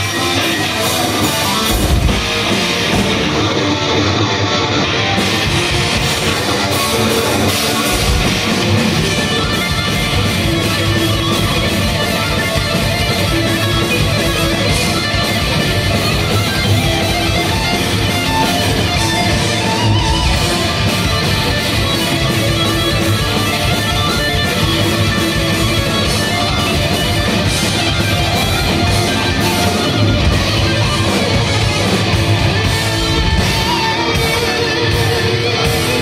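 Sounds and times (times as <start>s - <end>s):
steady drum beat: 0.0s - 4.0s, 4.8s - 36.0s
bass guitar: 0.0s - 36.0s
distorted electric guitars: 0.0s - 36.0s.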